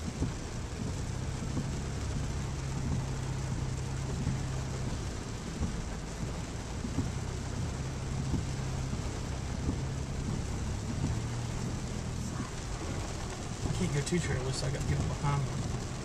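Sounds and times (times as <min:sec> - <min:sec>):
car engine and road noise: 0:00.0 - 0:16.0
soft low bumps: 0:00.0 - 0:16.0.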